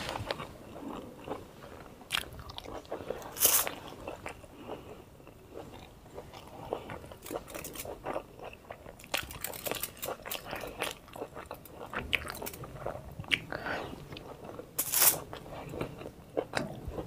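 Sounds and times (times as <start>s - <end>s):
biting and chewing dumplings: 0.1s - 17.0s.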